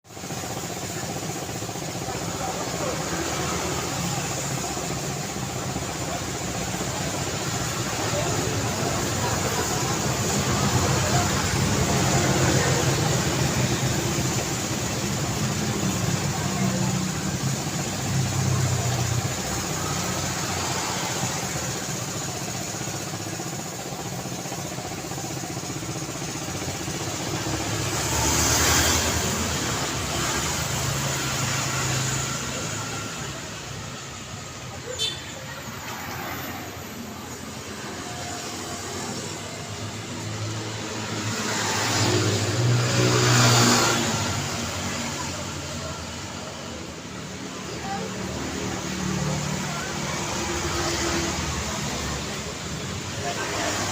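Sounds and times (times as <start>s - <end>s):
vehicles passing: 0.1s - 53.9s.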